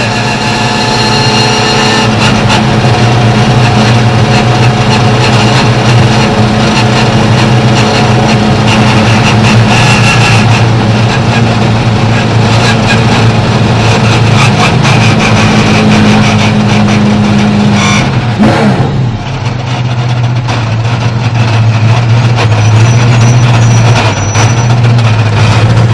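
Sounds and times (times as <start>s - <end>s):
race car engine from inside: 0.0s - 25.9s.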